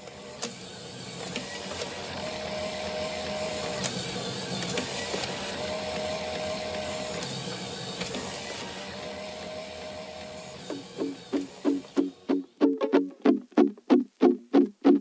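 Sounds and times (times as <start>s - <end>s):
motors and gears whirring: 0.0s - 12.5s.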